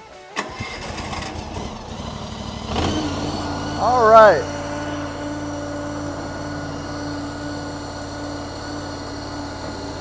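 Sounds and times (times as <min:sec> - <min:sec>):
skid steer engine idling: 0:00.4 - 0:10.0.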